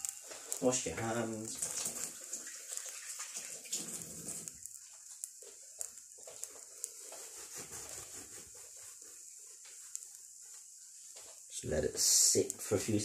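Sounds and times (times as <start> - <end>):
butter sizzling in a pan: 0.0 - 13.0.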